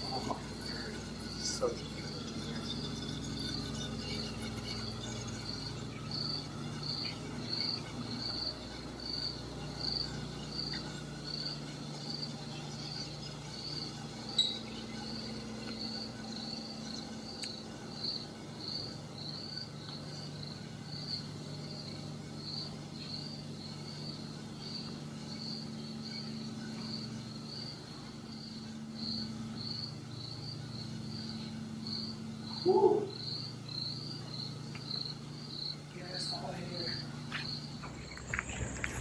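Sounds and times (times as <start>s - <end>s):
cricket chirping: 0.0s - 39.0s
steady low hum: 0.0s - 39.0s.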